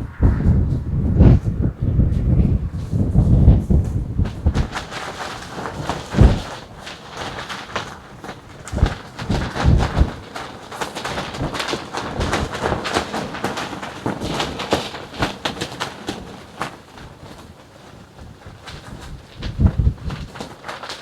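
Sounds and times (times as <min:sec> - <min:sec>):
clothing flapping in wind: 0:00.0 - 0:21.0
wind rumble on microphone: 0:00.0 - 0:21.0.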